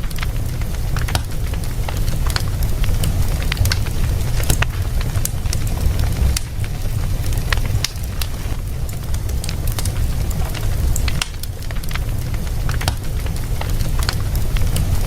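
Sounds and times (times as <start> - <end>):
flames rumbling: 0.0 - 15.0
wood fire crackling: 0.0 - 15.0.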